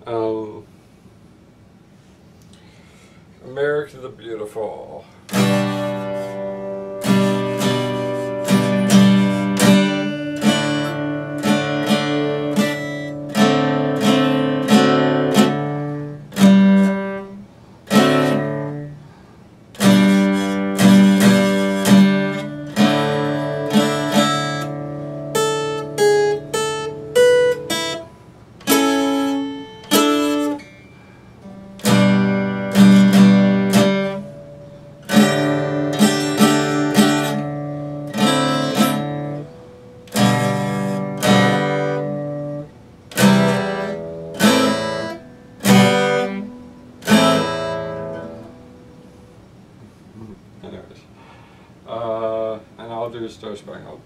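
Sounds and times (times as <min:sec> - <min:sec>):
solo acoustic guitar: 0:05.2 - 0:50.6.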